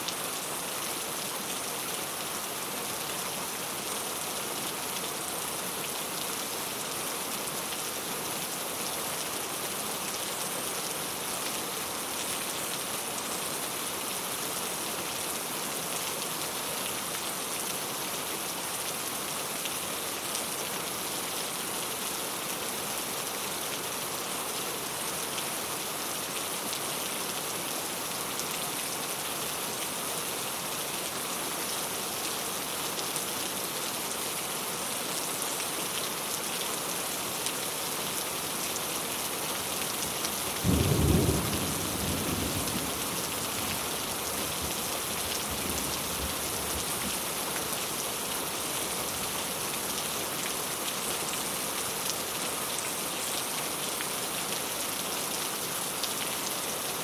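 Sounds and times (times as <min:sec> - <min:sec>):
rain on a tile roof: 0:00.0 - 0:57.0.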